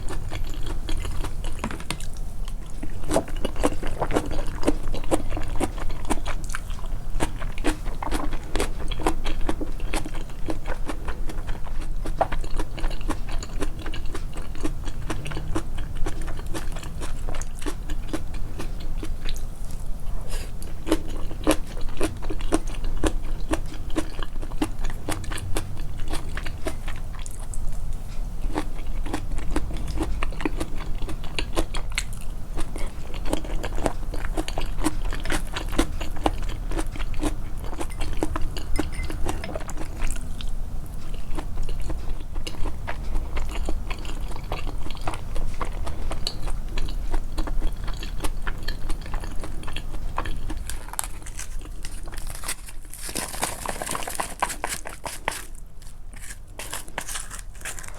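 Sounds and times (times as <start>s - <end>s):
person chewing crunchy food: 0.0s - 57.9s.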